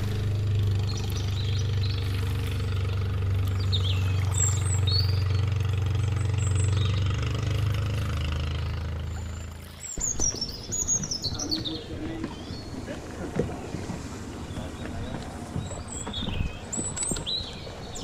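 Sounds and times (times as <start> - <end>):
engine idling hum: 0.0 - 18.0
small birds chirping: 0.1 - 7.4, 8.9 - 18.0.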